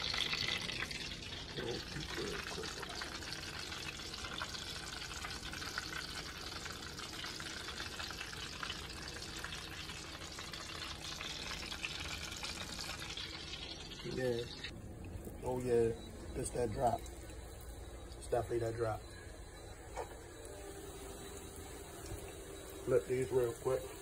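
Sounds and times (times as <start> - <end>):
food sizzling in hot oil: 0.0 - 14.7, 15.4 - 24.0.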